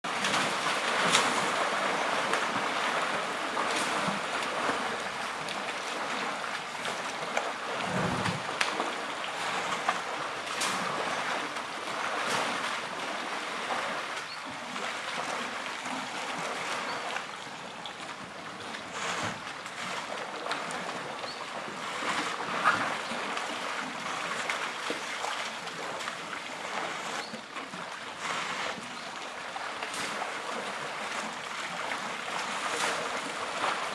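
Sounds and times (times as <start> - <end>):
short splashes: 0.1 - 33.9
water sloshing and splashing: 0.1 - 33.9.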